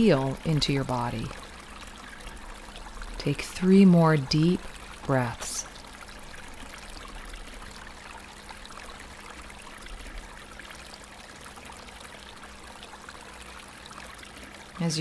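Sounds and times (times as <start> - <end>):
creek water over rocks: 0.0 - 15.0.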